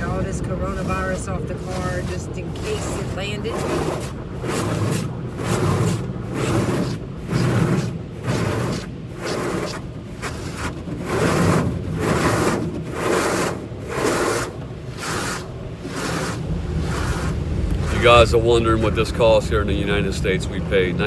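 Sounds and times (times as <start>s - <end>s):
car wash brushes swishing: 0.0s - 19.0s.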